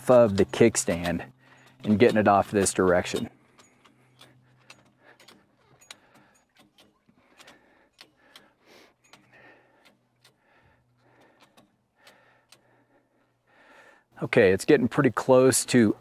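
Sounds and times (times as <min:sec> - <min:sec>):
tie-down strap clicking: 0:00.0 - 0:12.8.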